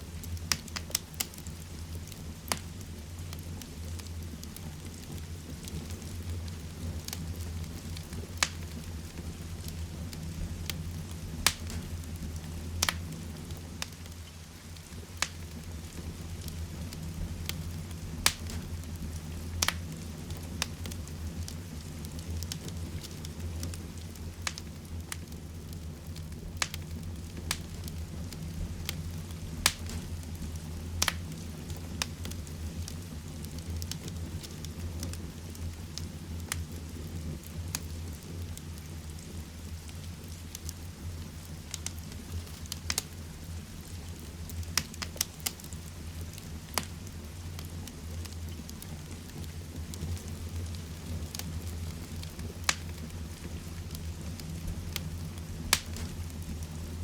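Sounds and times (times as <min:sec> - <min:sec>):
crackling fireplace fire: 0:00.0 - 0:57.0.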